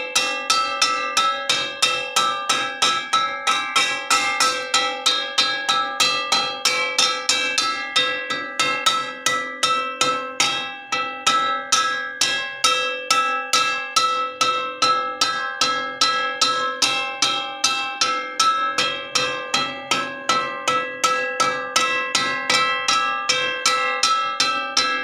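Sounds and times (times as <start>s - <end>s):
metal wok struck rhythmically: 0.0s - 25.0s.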